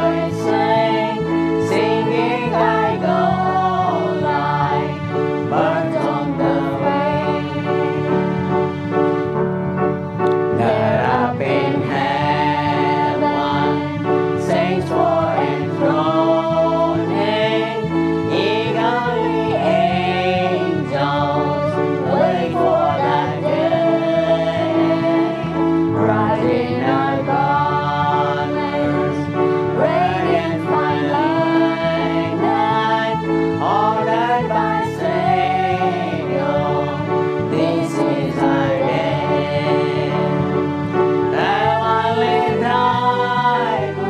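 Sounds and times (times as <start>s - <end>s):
congregation singing a hymn: 0.0s - 9.4s, 10.2s - 44.0s
instrumental accompaniment: 0.0s - 44.0s.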